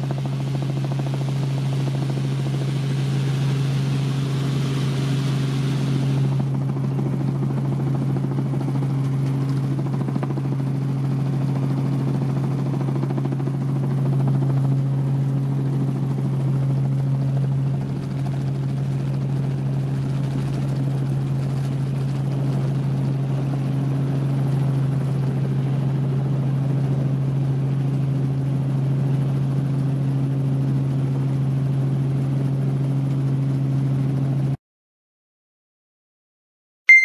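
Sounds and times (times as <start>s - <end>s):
helicopter rotors and engine: 0.0s - 34.6s.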